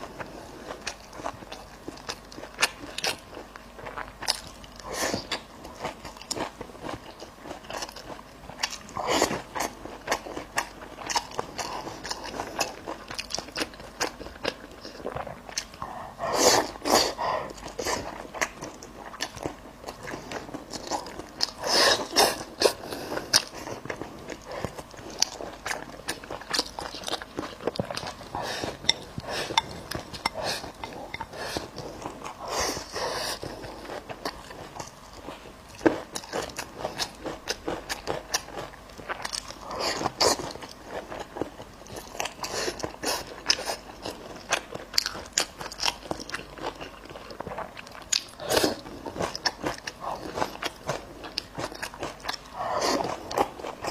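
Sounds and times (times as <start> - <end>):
biting and chewing: 0.0 - 53.9.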